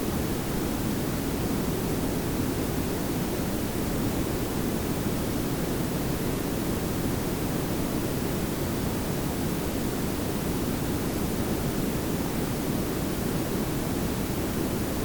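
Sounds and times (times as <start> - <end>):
steady noise hiss: 0.0 - 15.0.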